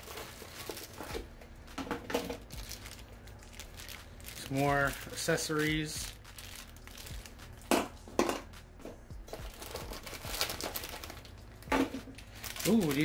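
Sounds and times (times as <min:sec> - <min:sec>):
plastic bags crinkling: 0:00.0 - 0:07.7, 0:09.3 - 0:13.0.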